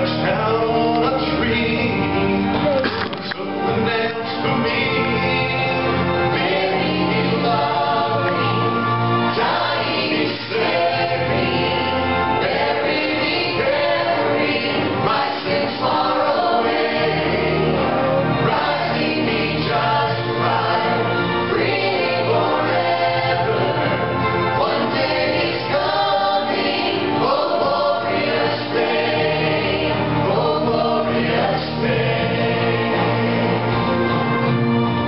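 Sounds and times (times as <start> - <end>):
choir singing: 0.0 - 2.5, 3.4 - 35.0.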